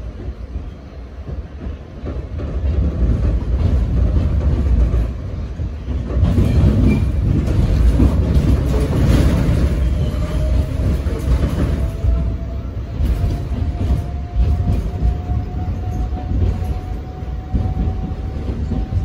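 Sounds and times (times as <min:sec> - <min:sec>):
clickety-clack over rail joints: 0:00.0 - 0:19.0
subway wheels rumbling on rails: 0:00.0 - 0:19.0.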